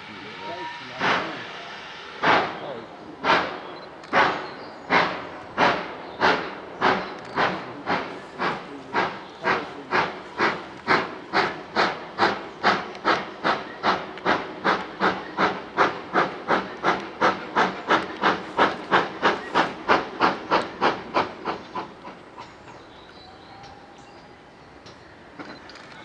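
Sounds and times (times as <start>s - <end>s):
steam locomotive exhaust beats: 0.0s - 23.9s.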